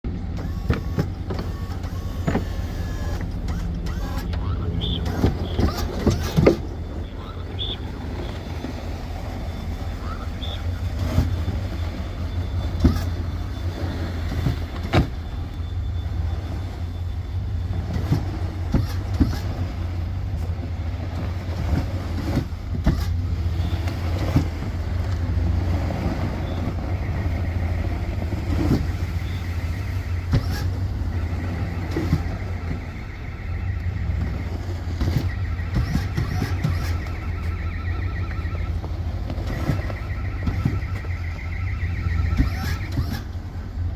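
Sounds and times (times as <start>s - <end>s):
knocks and clunks: 0.0s - 15.9s, 17.3s - 25.6s, 26.2s - 43.5s
vehicle engine droning: 0.0s - 43.9s.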